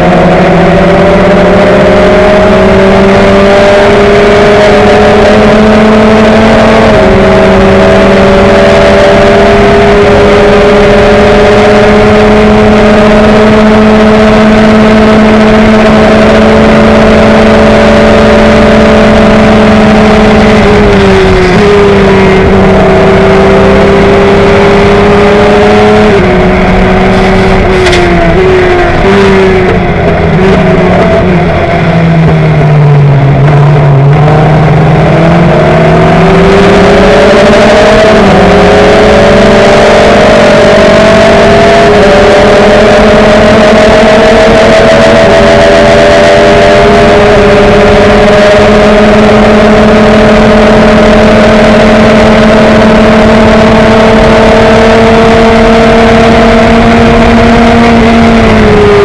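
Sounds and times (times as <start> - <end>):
racing car engine running hard: 0.0 - 59.0.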